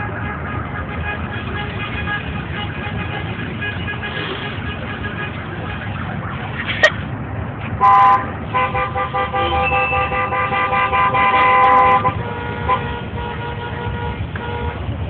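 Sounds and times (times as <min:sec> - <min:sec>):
car horns honking: 0:00.0 - 0:06.9, 0:07.8 - 0:15.0.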